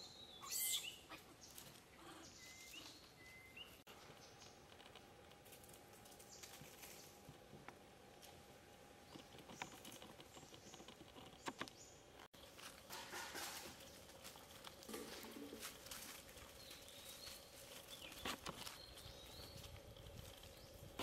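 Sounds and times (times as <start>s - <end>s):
soft patter and clicks: 3.9s - 21.0s.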